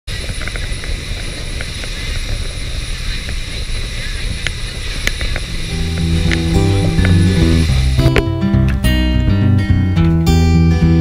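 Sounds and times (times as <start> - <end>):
wind buffeting microphone: 0.1 - 10.2
motorboat engine running: 0.1 - 11.0.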